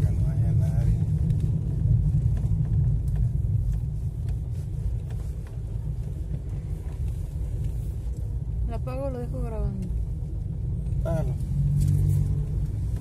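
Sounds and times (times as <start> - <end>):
car engine rumble: 0.0 - 13.0
tyres on road: 0.0 - 13.0.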